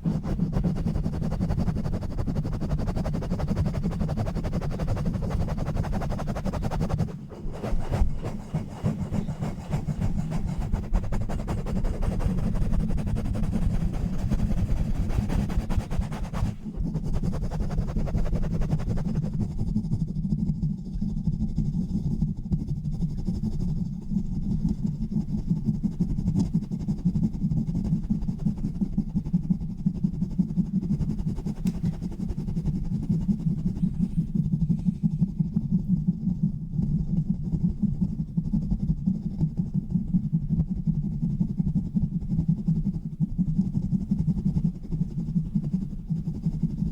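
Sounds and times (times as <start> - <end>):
rubbing on a microphone: 0.0 - 46.9.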